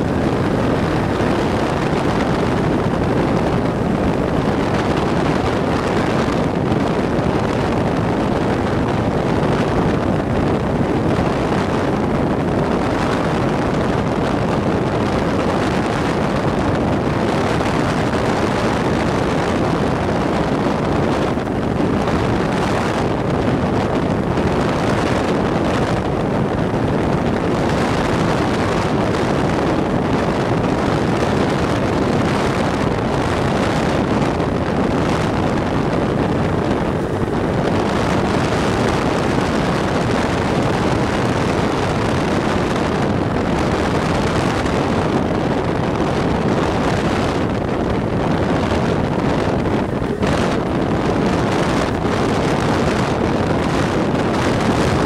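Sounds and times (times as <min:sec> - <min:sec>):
propeller plane engine drone: 0:00.0 - 0:55.0
rush of air: 0:00.0 - 0:55.0.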